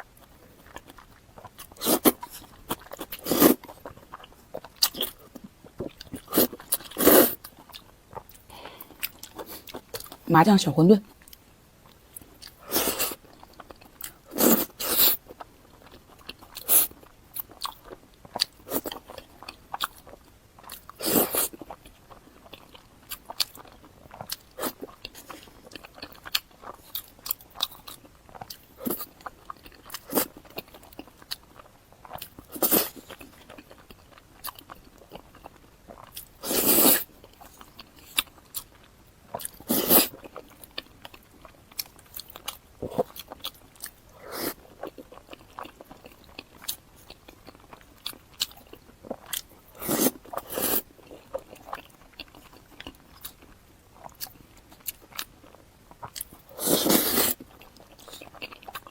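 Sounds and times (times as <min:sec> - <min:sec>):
wet chewing and mouth clicks: 0:00.0 - 0:10.3, 0:11.1 - 0:58.9.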